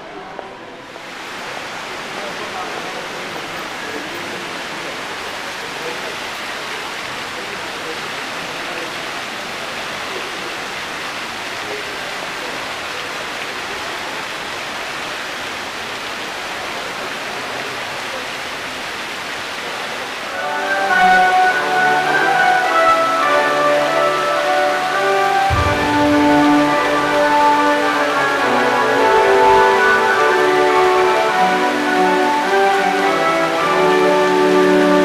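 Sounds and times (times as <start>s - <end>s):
murmur of voices: 0.0s - 14.8s, 16.3s - 35.0s
fountain water splashing: 0.0s - 35.0s.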